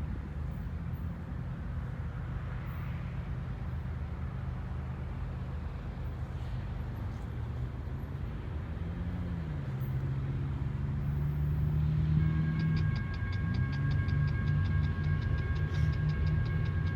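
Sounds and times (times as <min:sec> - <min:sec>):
diesel locomotive engine humming: 0:03.3 - 0:16.9.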